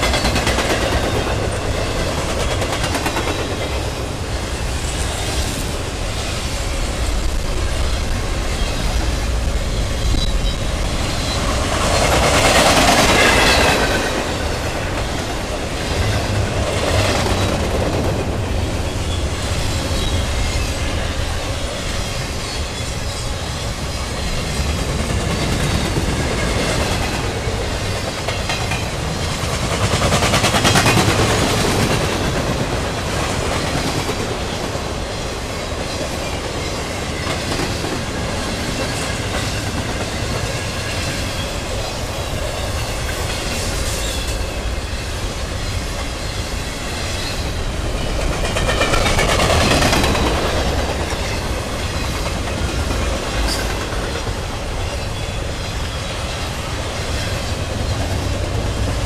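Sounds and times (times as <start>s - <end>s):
freight train wheels clacking: 0.0s - 59.0s.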